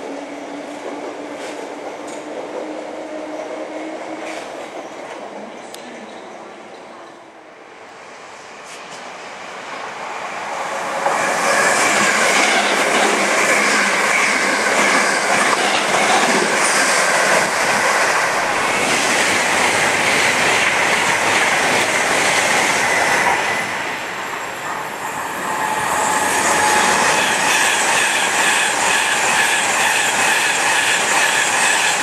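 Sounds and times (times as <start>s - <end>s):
train passing on rails: 0.0s - 32.0s.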